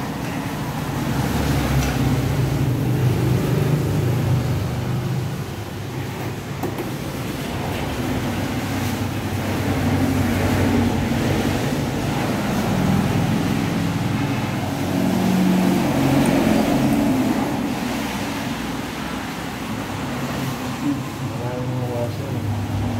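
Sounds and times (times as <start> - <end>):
vehicle engines rumbling: 0.0 - 22.9.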